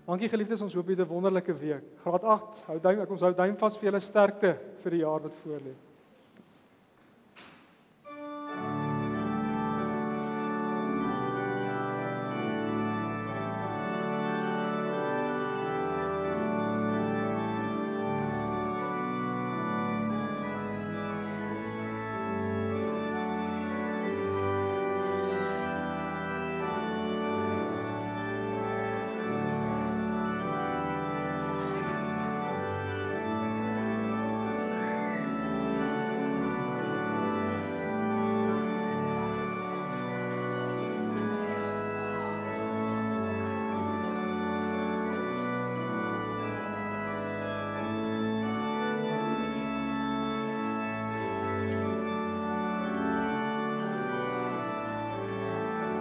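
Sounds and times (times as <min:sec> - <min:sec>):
organ playing sustained chords: 0:00.0 - 0:05.8, 0:08.0 - 0:56.0.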